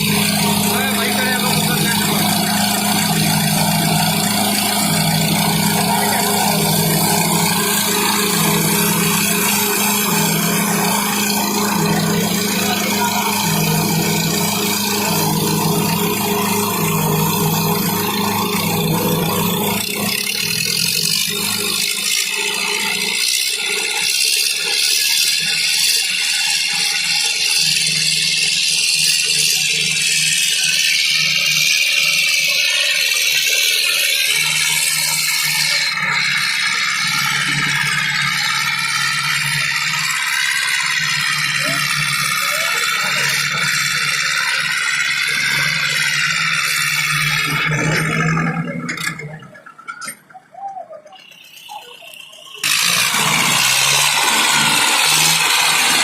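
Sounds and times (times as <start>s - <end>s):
high whine and clatter: 0.0s - 56.0s
tractor engines running under load: 0.0s - 56.0s.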